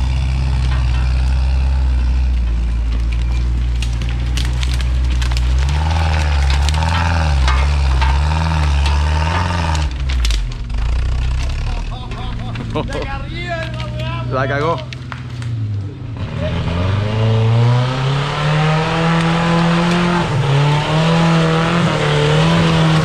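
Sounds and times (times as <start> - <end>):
stones crunching under tyres: 0.0 - 15.9, 16.8 - 23.0
off-road vehicle engine revving: 0.0 - 23.0.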